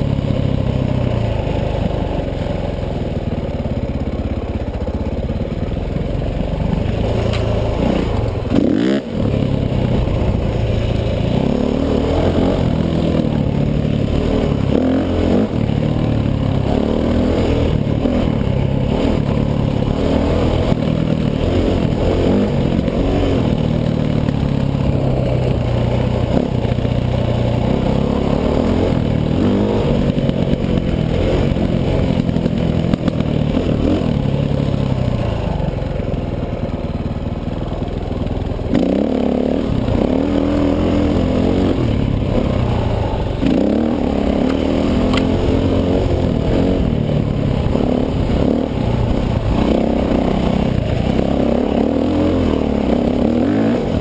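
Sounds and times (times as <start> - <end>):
dirt bike engine revving: 6.2 - 35.8, 38.7 - 54.0.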